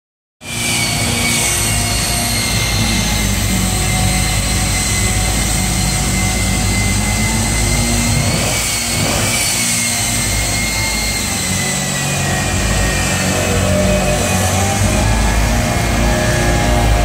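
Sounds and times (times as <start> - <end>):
jet engine whine and rumble: 0.4 - 17.0.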